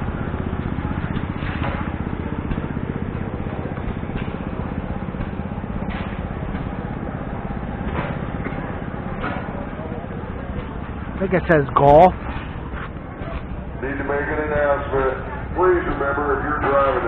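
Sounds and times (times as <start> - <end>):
engine chugging: 0.0 - 17.0.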